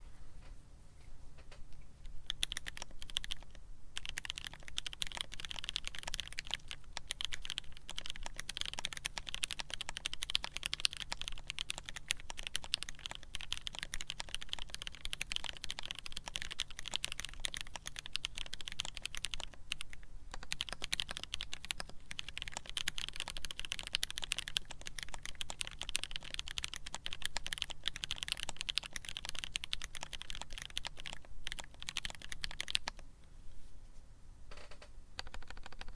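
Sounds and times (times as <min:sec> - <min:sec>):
fast mechanical keyboard typing: 0:02.0 - 0:33.0, 0:35.2 - 0:35.9.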